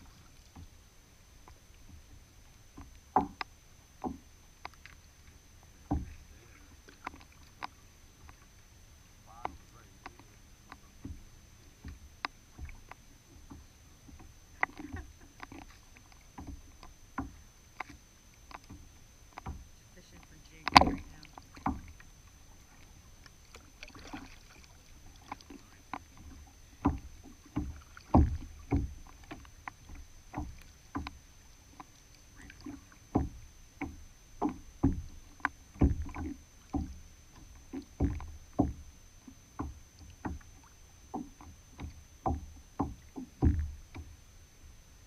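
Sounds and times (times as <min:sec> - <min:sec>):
waves knocking against kayak hull: 0:00.0 - 0:45.0.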